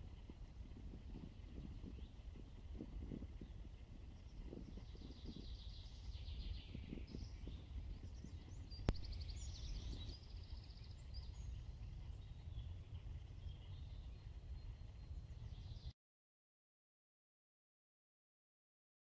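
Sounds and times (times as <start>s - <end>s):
small birds singing: 0.0s - 15.9s.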